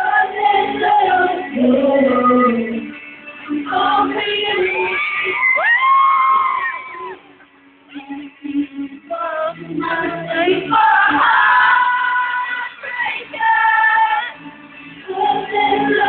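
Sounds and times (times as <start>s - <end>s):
woman singing: 0.0s - 5.6s, 7.9s - 14.4s, 15.1s - 16.0s
music with singing: 0.0s - 16.0s.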